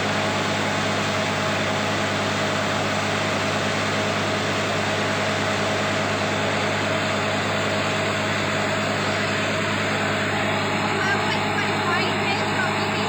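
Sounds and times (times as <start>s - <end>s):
drilling rig engine drone: 0.0s - 13.0s.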